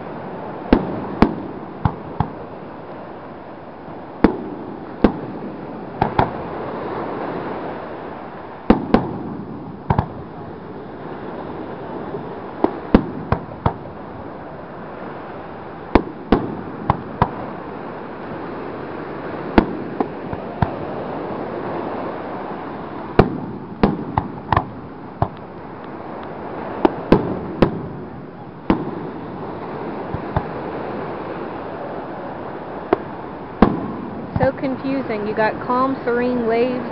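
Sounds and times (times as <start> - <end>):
fireworks booming: 0.0 - 36.9
surf washing: 0.0 - 36.9.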